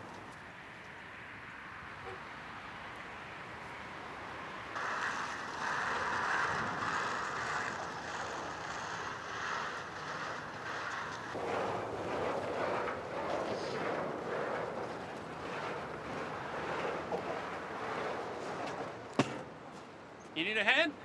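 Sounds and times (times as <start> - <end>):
traffic: 0.0 - 21.0
wind: 0.0 - 21.0.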